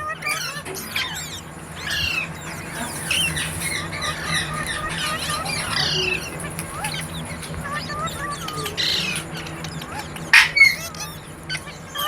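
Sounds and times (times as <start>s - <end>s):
parakeets chirping and squawking: 0.0s - 12.0s.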